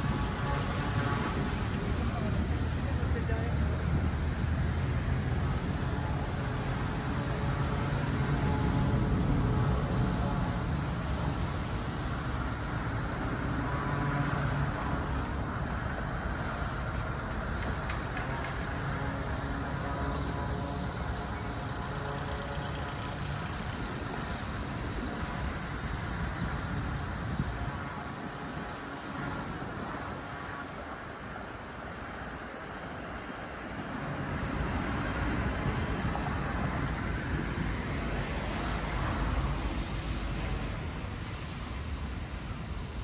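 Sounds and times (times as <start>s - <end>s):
road traffic noise: 0.0s - 43.0s.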